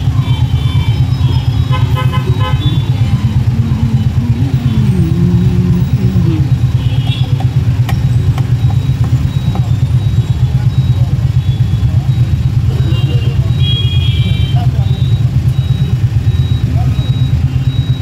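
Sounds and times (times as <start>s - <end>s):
city traffic: 0.0s - 18.0s
motorbike engine idling: 0.0s - 18.0s.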